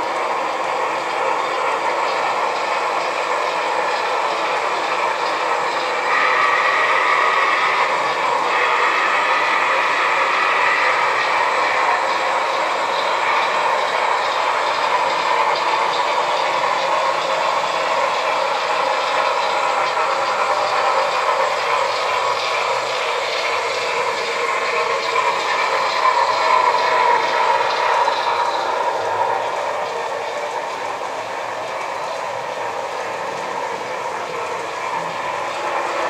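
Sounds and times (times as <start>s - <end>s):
model train wheels clattering: 0.0s - 36.0s.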